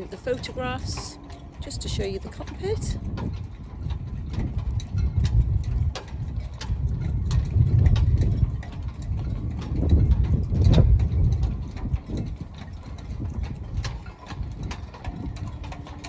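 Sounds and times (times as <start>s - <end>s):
light clicks and knocks: 0.0s - 16.0s
wind buffeting microphone: 0.0s - 16.0s.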